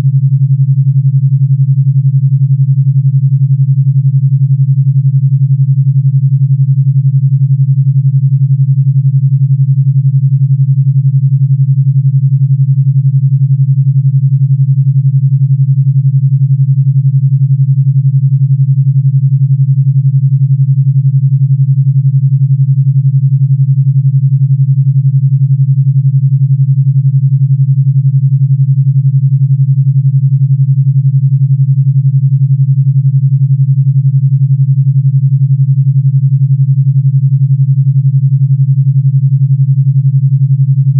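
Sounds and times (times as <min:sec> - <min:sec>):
pulsing low electronic tone: 0:00.0 - 0:40.9.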